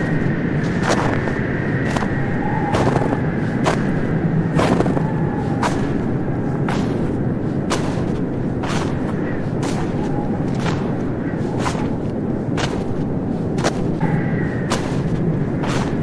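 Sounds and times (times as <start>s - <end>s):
footsteps crunching in snow: 0.0s - 16.0s
steady low rumble: 0.0s - 16.0s.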